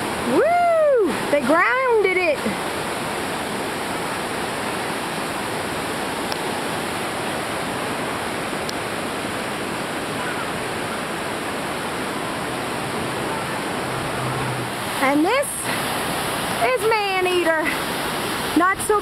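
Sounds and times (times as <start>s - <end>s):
whitewater rapids rushing: 0.0s - 19.0s.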